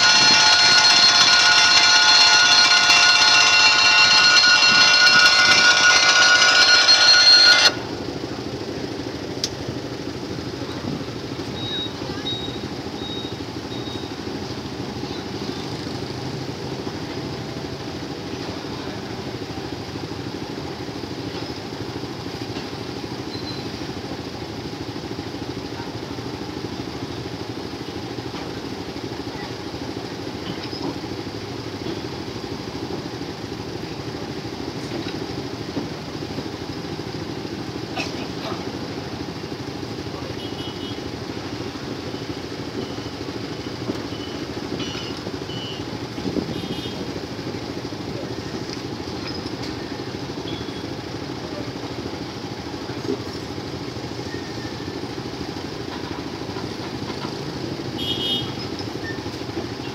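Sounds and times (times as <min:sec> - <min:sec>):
train rolling past: 0:00.0 - 0:40.4, 0:41.2 - 0:59.9
motorbike engines idling: 0:00.0 - 0:59.9.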